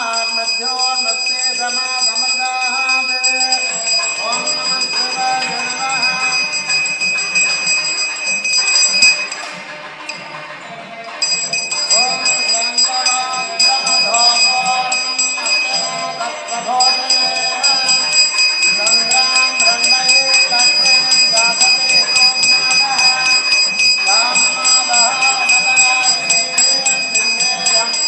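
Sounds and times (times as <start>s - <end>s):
hand bell ringing rapidly: 0.0s - 10.3s, 11.1s - 28.0s.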